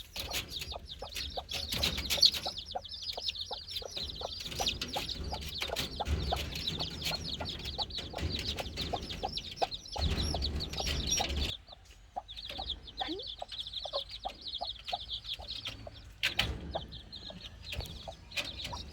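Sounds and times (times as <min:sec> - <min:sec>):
chicks peeping: 0:00.0 - 0:18.9.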